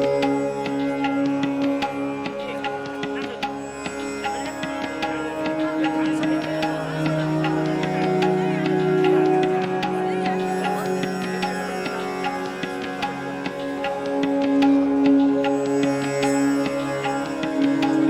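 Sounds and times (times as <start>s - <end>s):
percussion strokes: 0.0s - 18.0s
plucked string notes: 0.0s - 18.0s.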